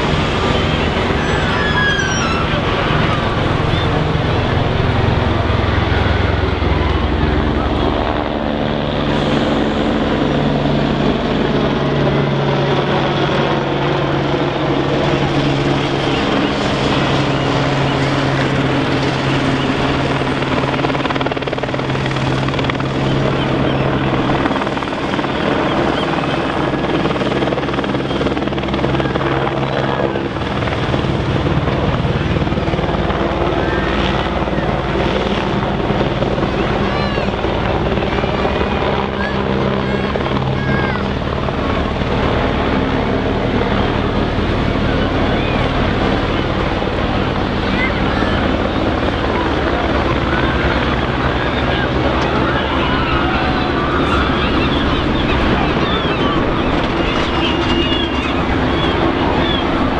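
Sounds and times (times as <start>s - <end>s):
engine drone with chopping pulse: 0.0s - 59.9s
faint crowd chatter: 0.0s - 59.9s.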